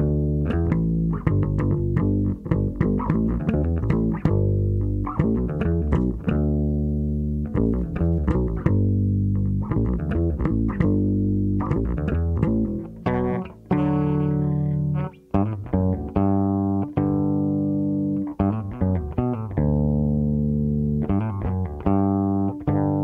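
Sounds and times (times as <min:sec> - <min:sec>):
electric bass guitar: 0:00.0 - 0:23.0.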